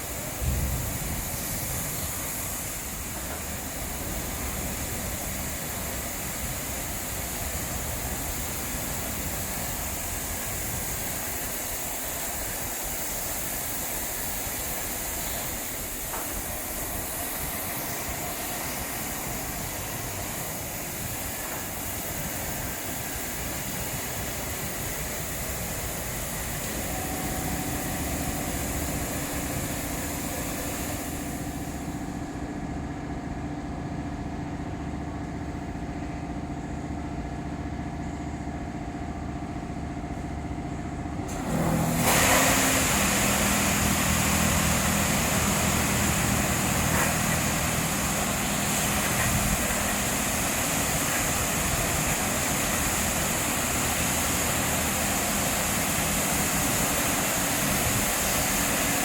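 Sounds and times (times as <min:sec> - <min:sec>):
car wash motor and pump hum: 0:00.0 - 0:59.0
loud steady hiss: 0:00.0 - 0:59.0.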